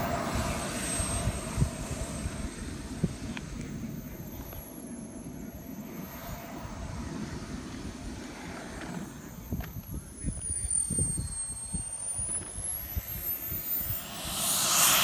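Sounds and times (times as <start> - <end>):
small turbine engine whining: 0.0 - 15.0
wind rumble on microphone: 0.0 - 15.0.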